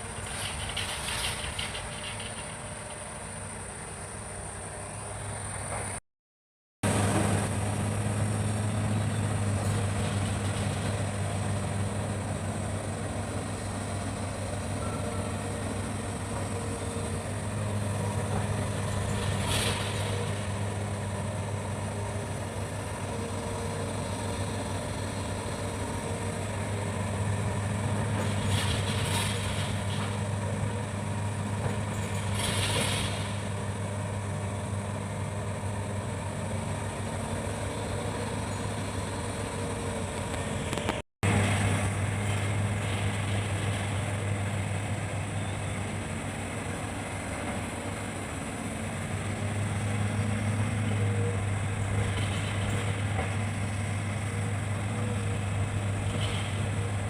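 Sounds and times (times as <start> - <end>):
excavator diesel engine running: 0.0 - 6.0, 6.8 - 57.0.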